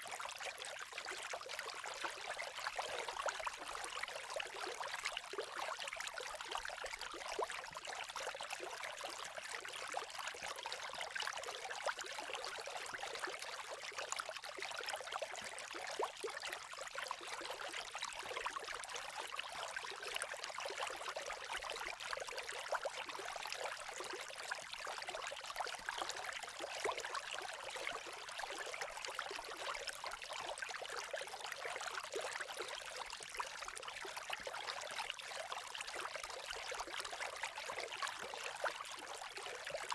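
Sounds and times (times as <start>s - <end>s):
babbling creek: 0.0s - 39.9s.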